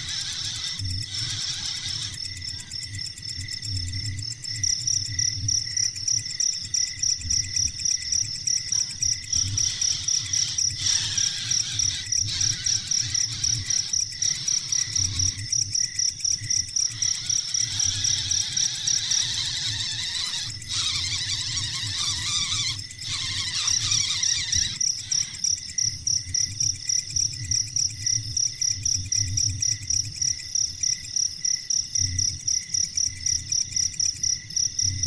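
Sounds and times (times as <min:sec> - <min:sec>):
insect chirping: 0:00.0 - 0:35.0.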